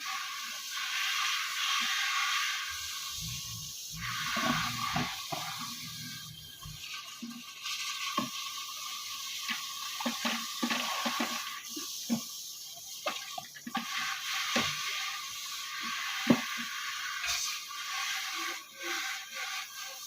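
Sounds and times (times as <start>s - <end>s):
water running and splashing: 0.0s - 20.0s.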